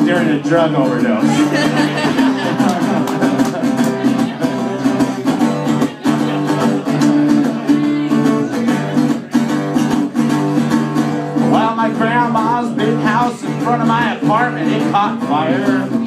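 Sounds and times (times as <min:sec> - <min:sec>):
solo guitar playing: 0:00.0 - 0:16.0.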